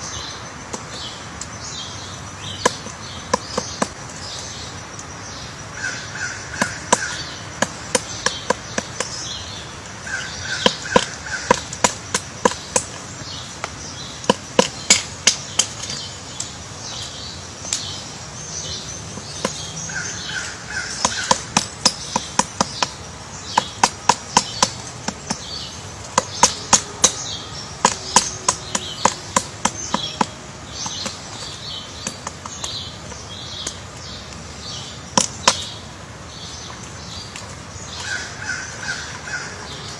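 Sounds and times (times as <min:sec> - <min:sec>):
small birds chirping: 0:00.0 - 0:39.9
woodpecker pecking wood: 0:00.7 - 0:05.0, 0:05.8 - 0:39.9.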